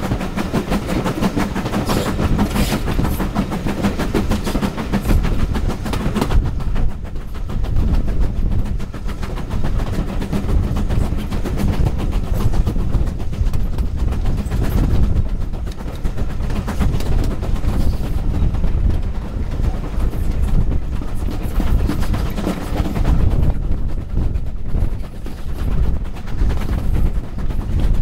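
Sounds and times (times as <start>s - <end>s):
train running noise: 0.0s - 28.0s
wind buffeting microphone: 0.0s - 28.0s.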